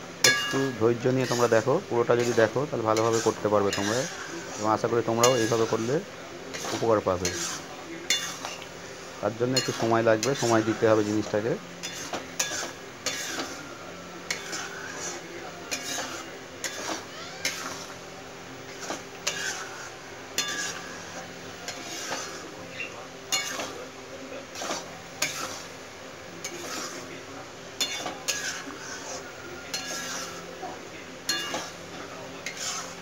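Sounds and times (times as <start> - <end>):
metal spatula scraping a pan: 0.2 - 18.0, 18.7 - 23.8, 24.5 - 25.8, 26.4 - 27.1, 27.8 - 30.6, 31.3 - 33.0.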